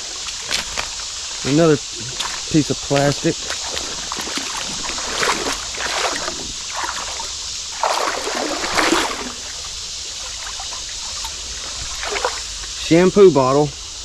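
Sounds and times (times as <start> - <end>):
water splashes: 0.0 - 13.1
creek water running: 0.0 - 14.0.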